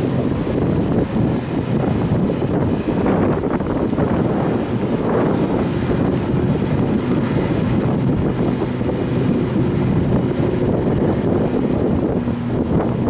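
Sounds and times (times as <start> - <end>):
engine hum: 0.0 - 13.0
wind buffeting microphone: 0.0 - 13.0.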